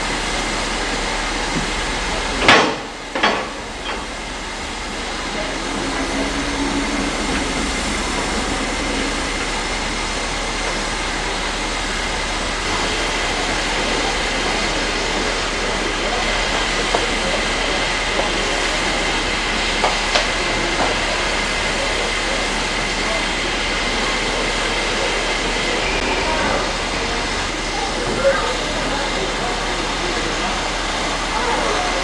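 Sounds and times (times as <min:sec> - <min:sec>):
hiss of escaping steam: 0:00.0 - 0:27.6.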